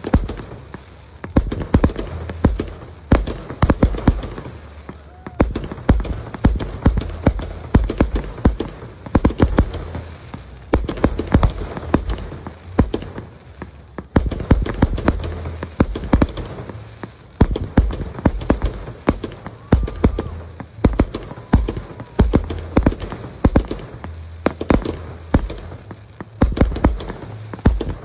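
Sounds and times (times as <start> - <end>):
fireworks popping and banging: 0.0 - 28.0.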